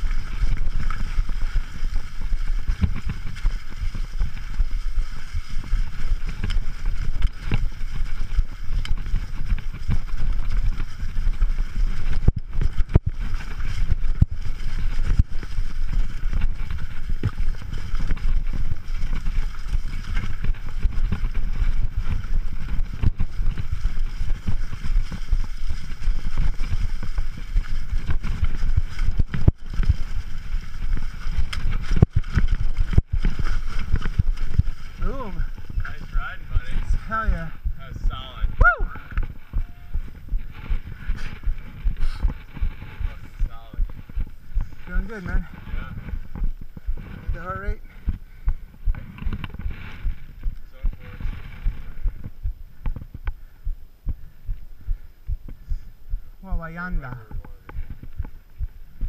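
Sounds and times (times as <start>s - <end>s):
bike knocking and rattling: 0.0s - 56.0s, 56.7s - 59.0s
bike tyres rumbling on dirt: 0.0s - 59.0s.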